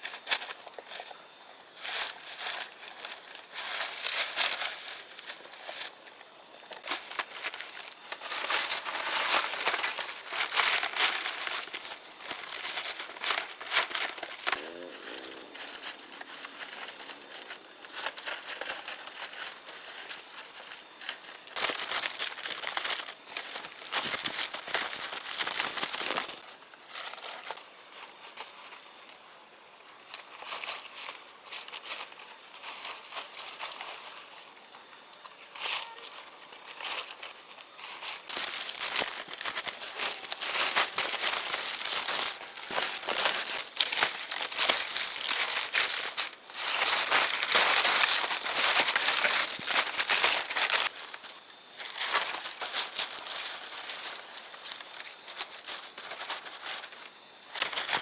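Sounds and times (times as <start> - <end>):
dry material crinkling and rustling: 0.0 - 29.4, 30.0 - 58.0.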